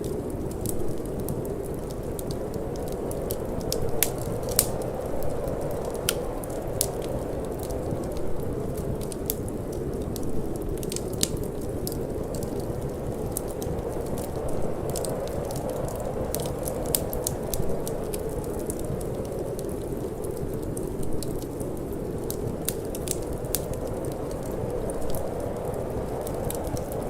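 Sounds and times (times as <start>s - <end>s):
low rush of wind: 0.0s - 27.0s
wood fire crackling and popping: 0.0s - 27.0s.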